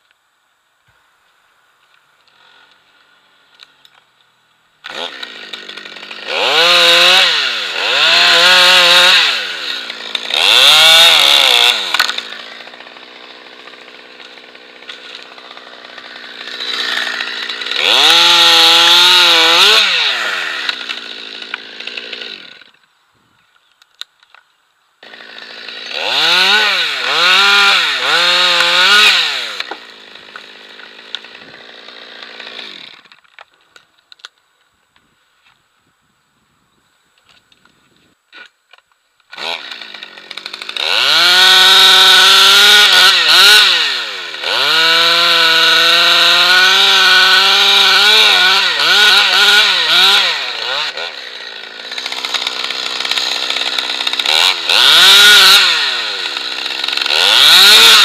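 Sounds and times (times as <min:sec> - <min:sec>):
chainsaw cutting wood: 0:02.2 - 0:04.1, 0:04.8 - 0:22.9, 0:25.0 - 0:34.4, 0:38.3 - 0:58.0.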